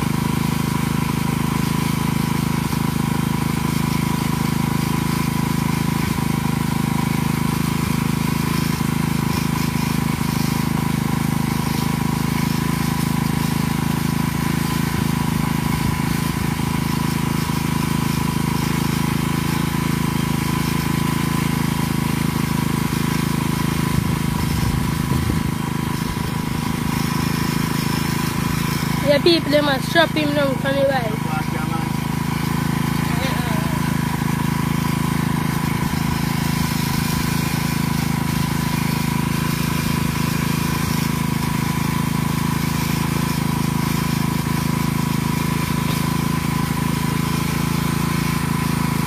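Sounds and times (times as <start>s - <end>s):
small motorcycle engine idling: 0.0s - 49.0s.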